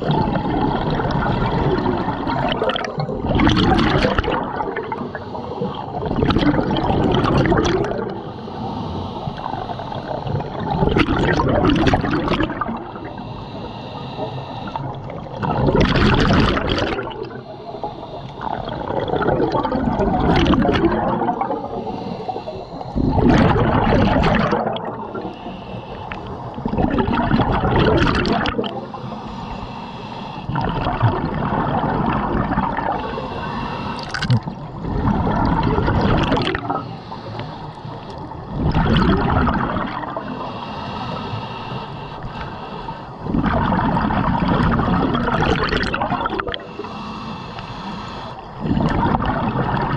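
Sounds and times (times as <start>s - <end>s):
diver's exhaled air bubbling: 0.0s - 8.3s, 9.0s - 49.9s
underwater water noise: 0.0s - 49.9s.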